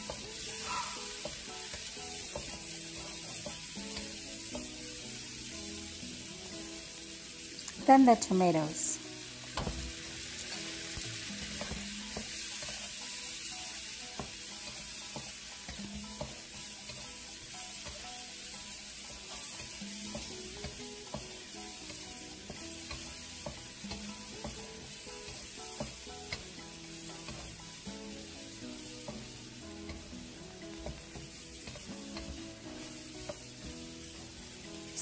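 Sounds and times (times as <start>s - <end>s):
utensil clicking against pan: 0.0s - 4.9s, 9.5s - 35.0s
food sizzling in a hot pan: 0.0s - 35.0s
soft background music: 0.0s - 35.0s.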